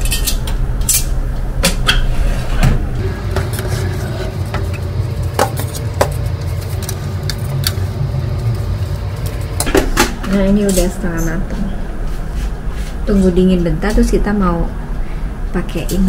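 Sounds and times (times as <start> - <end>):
steady low mechanical hum: 0.0 - 16.0.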